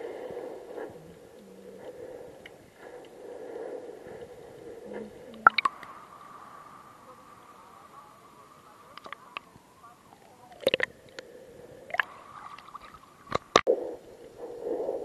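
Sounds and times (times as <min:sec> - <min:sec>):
muffled underwater sound: 0:00.0 - 0:15.0.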